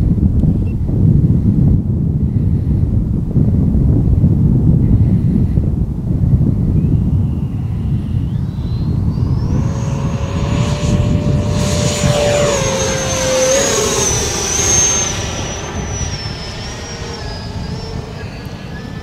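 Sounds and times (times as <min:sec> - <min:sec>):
rushing air noise: 0:00.0 - 0:19.0
model jet fan whine: 0:00.1 - 0:19.0.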